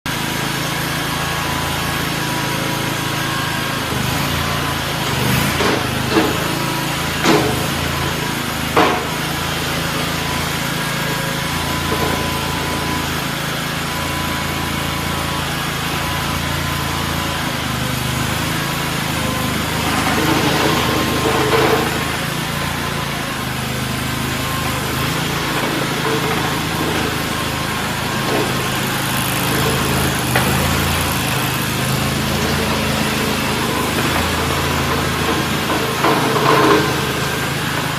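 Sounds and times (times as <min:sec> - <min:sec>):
small gas engine running: 0:00.0 - 0:37.9.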